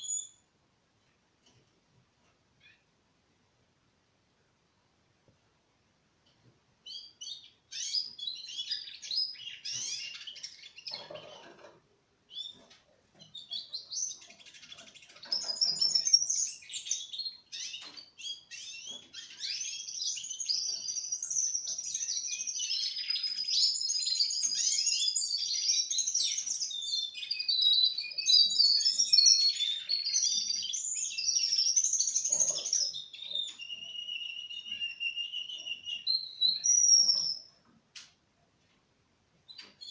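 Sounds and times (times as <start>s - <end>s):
canaries singing trills and chirps: 0.0s - 0.5s, 6.2s - 38.7s, 39.3s - 39.9s.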